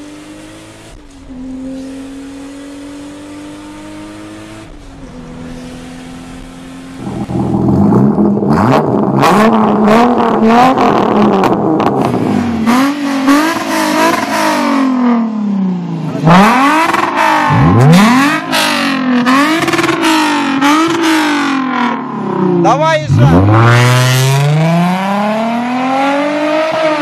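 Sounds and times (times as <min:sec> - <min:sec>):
car engine revving: 0:00.0 - 0:27.0
second car engine revving: 0:00.0 - 0:27.0.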